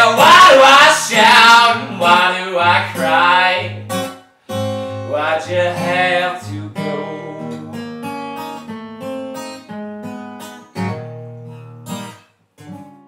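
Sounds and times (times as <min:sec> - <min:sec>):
solo blues guitar: 0:00.0 - 0:13.0.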